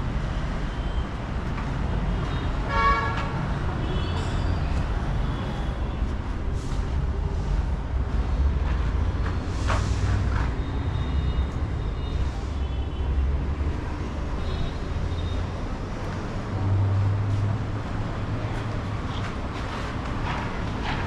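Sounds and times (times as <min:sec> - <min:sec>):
heavy engine rumbling: 0:00.0 - 0:21.0.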